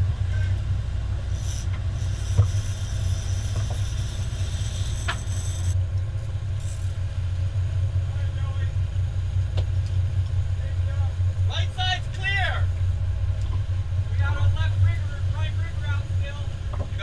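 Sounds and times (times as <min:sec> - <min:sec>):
boat diesel engines droning: 0:00.0 - 0:17.0.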